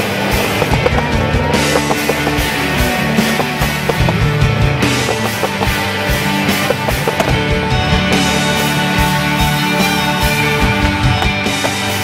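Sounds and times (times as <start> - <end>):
rock music with steady beat: 0.0 - 12.0.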